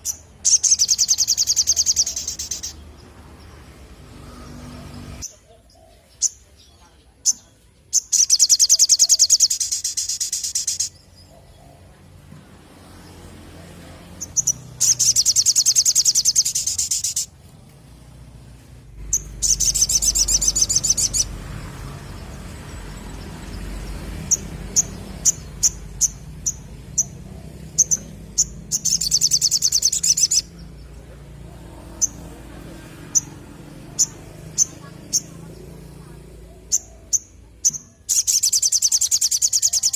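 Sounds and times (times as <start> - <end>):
bird singing fast trills: 0.0 - 11.6, 14.0 - 17.4, 19.0 - 39.9.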